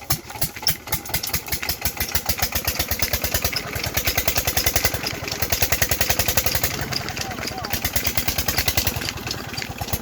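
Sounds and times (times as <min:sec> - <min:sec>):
diesel engine chugging: 0:00.0 - 0:10.0.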